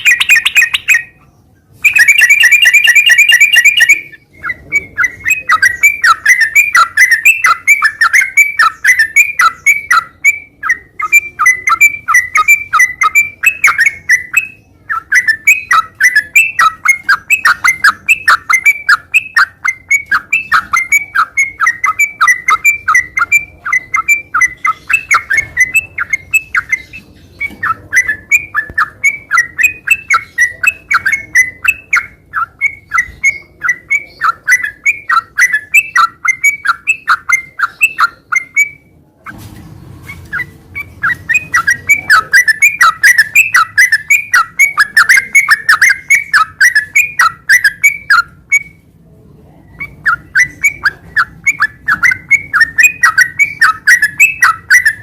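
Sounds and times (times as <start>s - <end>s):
bulbul singing: 0.0s - 39.4s, 40.0s - 55.0s.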